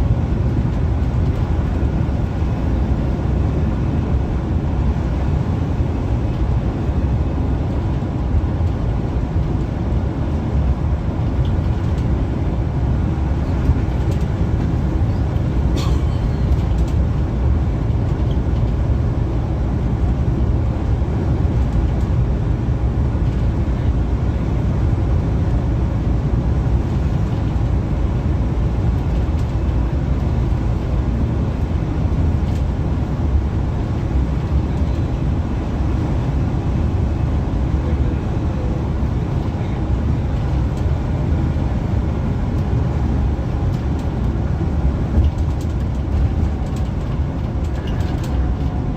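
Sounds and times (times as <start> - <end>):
coach engine and road rumble: 0.0 - 48.9.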